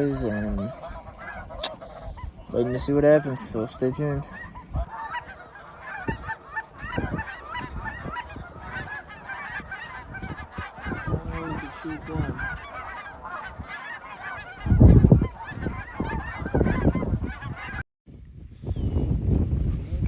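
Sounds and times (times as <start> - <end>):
geese honking: 0.0 - 17.8
wind buffeting microphone: 0.0 - 20.0.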